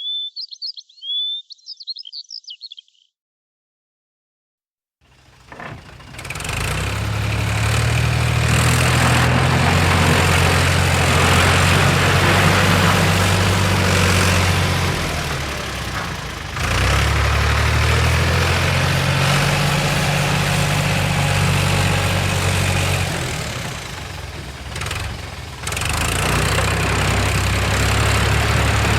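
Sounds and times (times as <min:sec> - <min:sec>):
heavy engine idling: 0:05.1 - 0:28.9.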